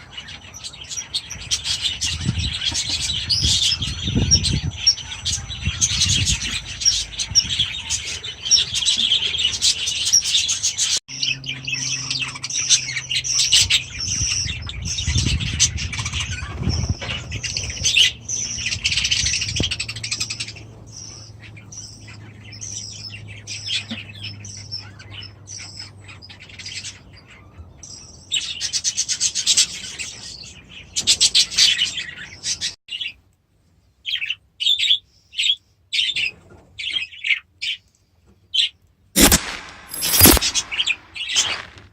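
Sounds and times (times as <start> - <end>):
birds chirping and chattering: 0.0 - 33.2, 38.6 - 41.7.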